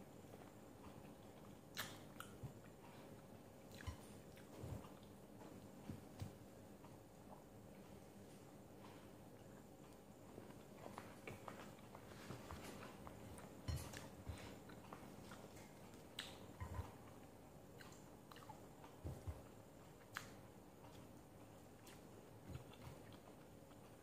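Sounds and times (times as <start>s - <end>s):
faint chewing: 0.2s - 24.0s.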